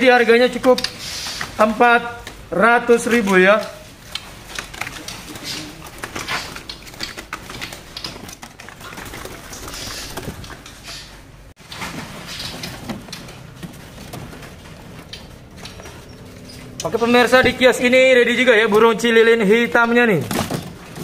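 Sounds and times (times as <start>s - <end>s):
birds rustling and fluttering: 0.0s - 21.0s
taps on perches and bars: 0.0s - 21.0s.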